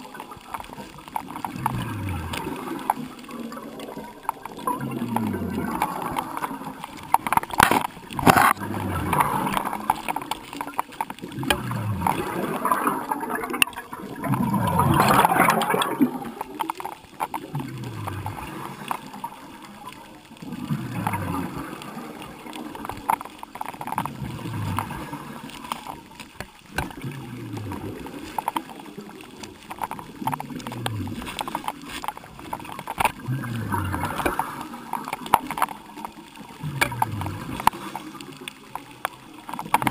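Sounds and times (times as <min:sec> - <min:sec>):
bubbles burbling underwater: 0:00.0 - 0:39.9.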